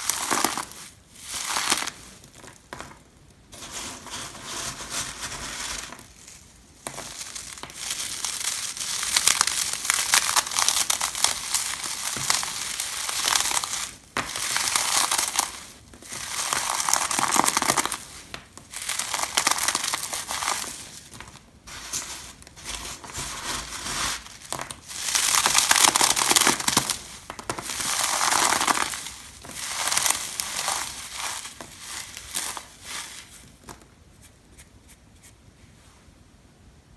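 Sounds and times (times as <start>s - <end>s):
cheese puffs crunching in hands: 0.0s - 3.3s, 5.7s - 21.6s, 22.3s - 33.9s.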